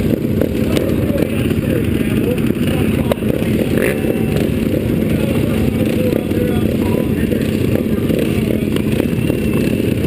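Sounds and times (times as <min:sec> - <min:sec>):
motorcycle engines idling: 0:00.0 - 0:10.0.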